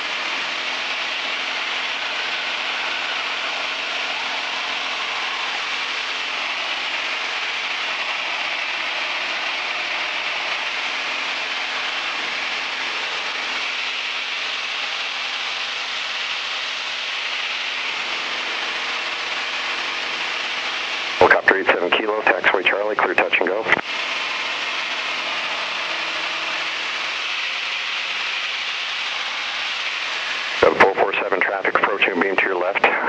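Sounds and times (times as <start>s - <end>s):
aircraft engine and propeller: 0.0s - 33.0s.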